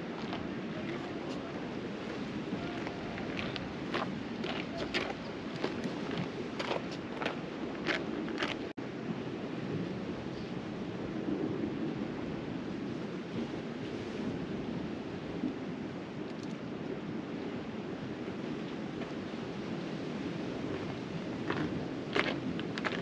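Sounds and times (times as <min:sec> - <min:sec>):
sea surf washing onto shore: 0:00.0 - 0:23.0
wind buffeting microphone: 0:00.0 - 0:23.0.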